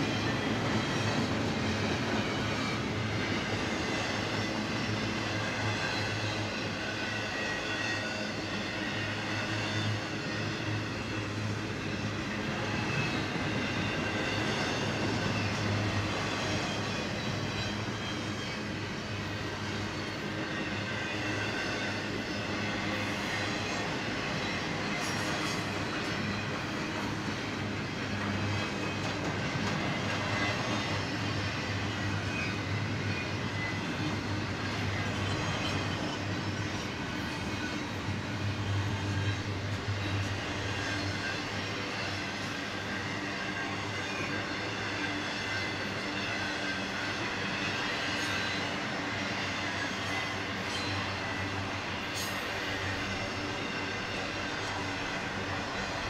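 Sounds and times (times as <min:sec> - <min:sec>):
train wheels rolling on rail: 0:00.0 - 0:56.0.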